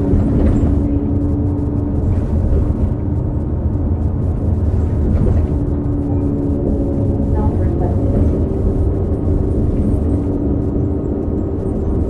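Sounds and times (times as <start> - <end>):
bus engine rumbling: 0.0 - 12.0
transmission whine: 0.0 - 12.0.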